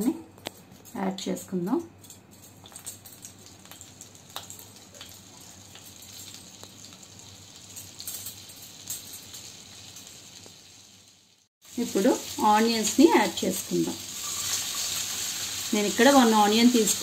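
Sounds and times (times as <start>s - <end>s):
butter sizzling in a pan: 2.1s - 17.0s.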